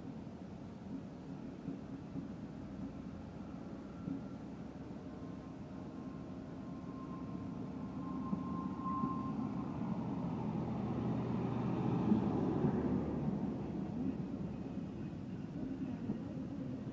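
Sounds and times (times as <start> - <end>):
diesel train engine under load: 0.0 - 16.9
thin high whine: 2.9 - 16.9.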